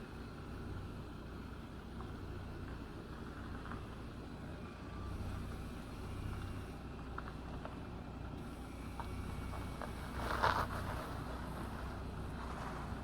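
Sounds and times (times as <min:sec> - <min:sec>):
engine rumbling at low revs: 0:00.0 - 0:13.0.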